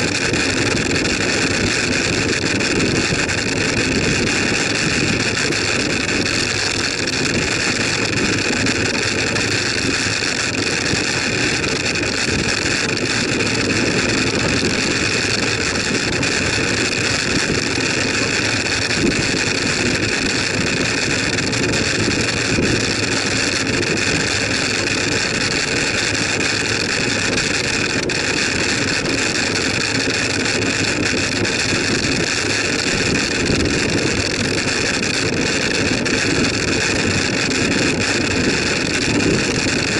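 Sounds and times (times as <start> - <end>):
bicycle tyres on tarmac: 0.0 - 39.9
high whine: 0.0 - 39.9
wind buffeting microphone: 0.0 - 39.9.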